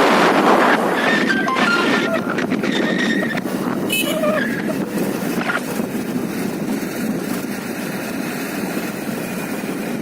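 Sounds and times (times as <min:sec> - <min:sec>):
motorcycle engine and road noise: 0:00.0 - 0:10.0
wind buffeting microphone: 0:00.0 - 0:10.0.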